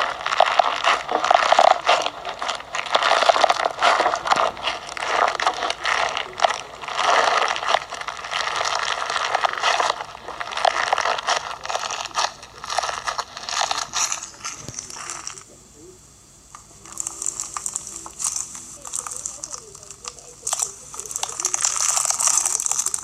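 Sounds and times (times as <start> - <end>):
bead slime crackling and crunching: 0.0 - 15.5, 16.6 - 23.0.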